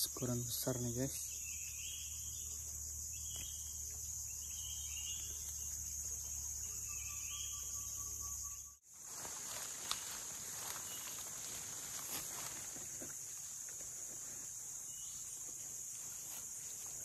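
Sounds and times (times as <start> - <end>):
insects chirping: 0.0 - 17.0
outdoor background noise: 0.0 - 17.0.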